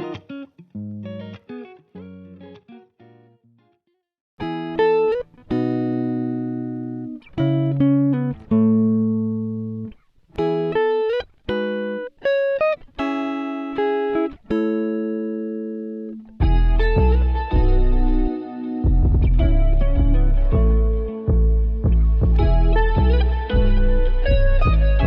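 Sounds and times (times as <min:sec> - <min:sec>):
plucked guitar melody: 0:00.0 - 0:25.0.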